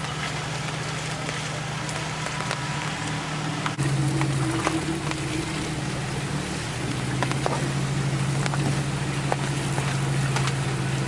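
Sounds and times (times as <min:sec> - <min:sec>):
sharp ticks and taps on vehicle: 0:00.0 - 0:05.3, 0:06.8 - 0:10.6
engine running: 0:00.0 - 0:11.0.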